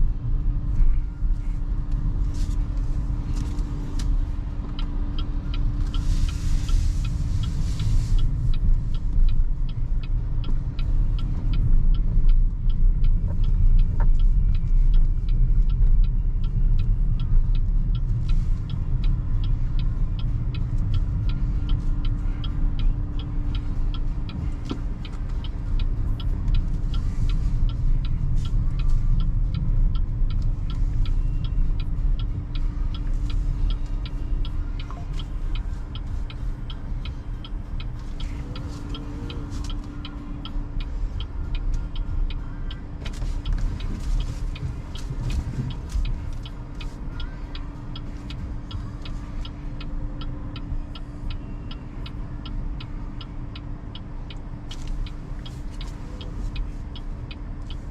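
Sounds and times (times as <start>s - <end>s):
road and tyre rumble: 0.0s - 57.9s
steady hum: 0.0s - 57.9s
fast regular ticking: 1.6s - 57.9s.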